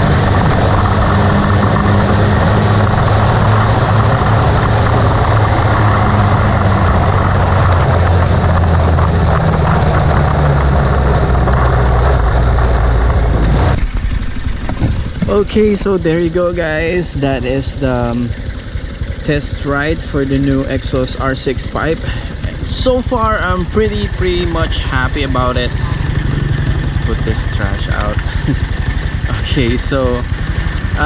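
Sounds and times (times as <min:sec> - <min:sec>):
motorcycle engine note: 0:00.0 - 0:31.0
wind and road noise: 0:00.0 - 0:31.0.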